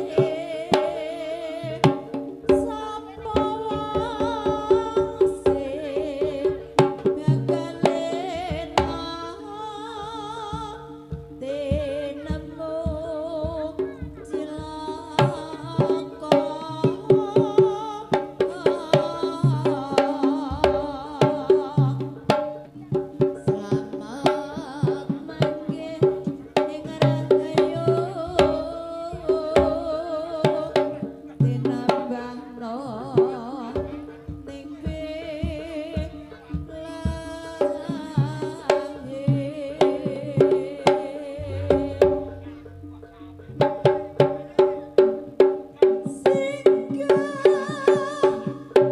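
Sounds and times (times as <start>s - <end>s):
hand drum strokes: 0.0s - 48.9s.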